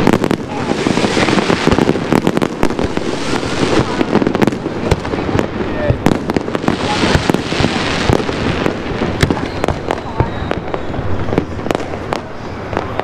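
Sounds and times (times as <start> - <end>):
fireworks bangs: 0.0 - 13.0
hissing crackle: 0.0 - 13.0.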